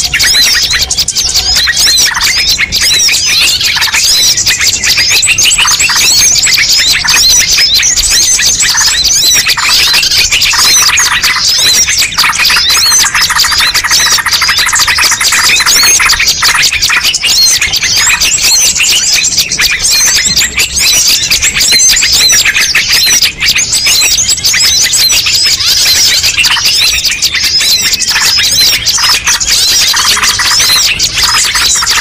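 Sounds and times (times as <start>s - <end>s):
chorus of small birds chirping: 0.0s - 32.0s.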